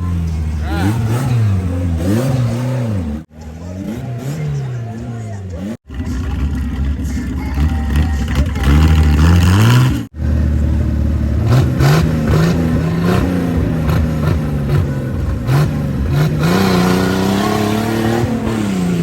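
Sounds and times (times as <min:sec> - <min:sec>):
racing vehicle engine revving: 0:00.0 - 0:19.0.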